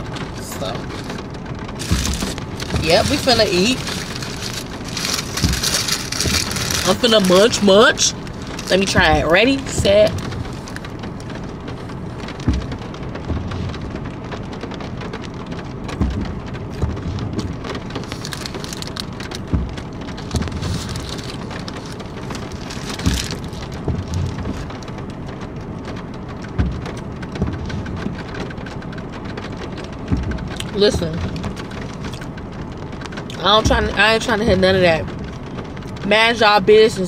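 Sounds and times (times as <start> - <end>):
louder rain taps: 0.0 - 36.8
rain on car roof: 0.0 - 37.0.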